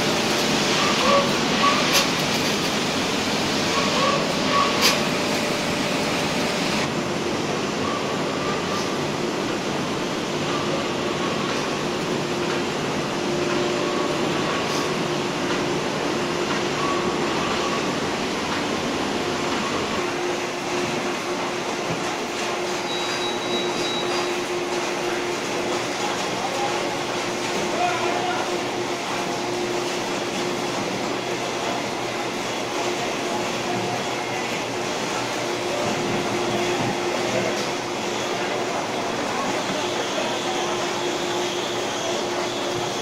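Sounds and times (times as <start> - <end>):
factory machinery humming: 0.0 - 43.0.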